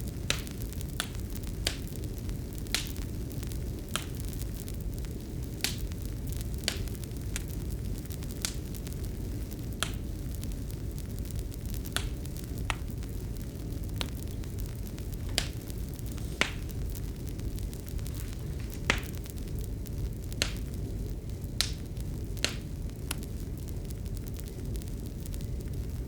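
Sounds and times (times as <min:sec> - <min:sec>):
sharp fire pops: 0:00.0 - 0:26.0
wood fire crackling: 0:00.0 - 0:26.0.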